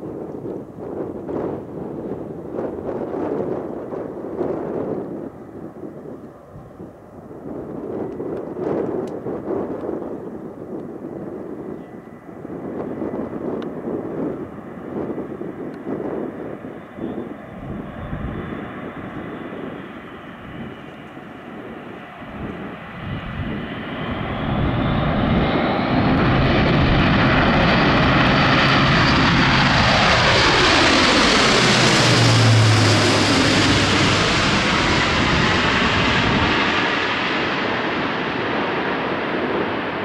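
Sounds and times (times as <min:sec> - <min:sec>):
turboprop aircraft passing: 0:00.1 - 0:40.0.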